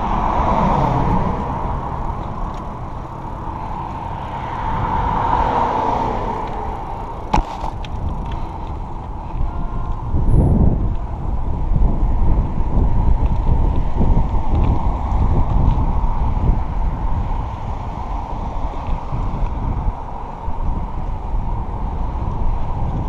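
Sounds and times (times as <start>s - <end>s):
bicycle tyres rolling on pavement: 0.0s - 23.0s
wind on microphone: 0.0s - 23.0s
bicycle mechanical rattle: 1.7s - 4.9s, 6.4s - 23.0s.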